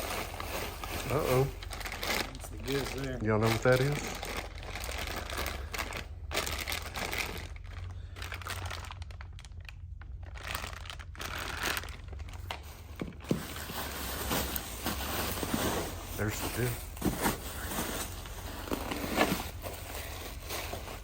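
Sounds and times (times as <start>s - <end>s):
packaging crinkling and rustling: 0.0s - 21.0s.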